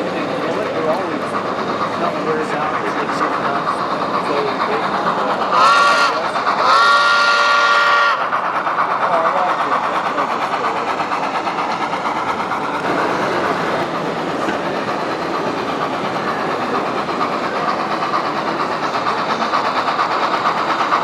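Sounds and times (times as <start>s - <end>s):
model train clattering: 0.0s - 21.0s.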